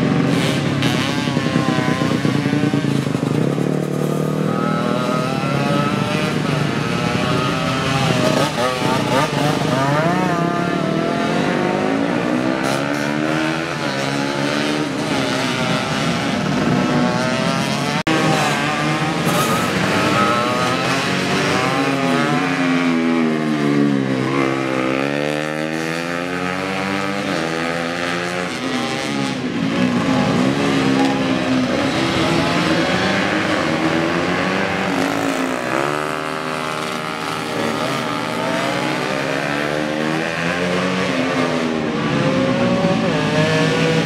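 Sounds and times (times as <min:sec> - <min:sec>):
motorcycles revving past: 0:00.0 - 0:44.0.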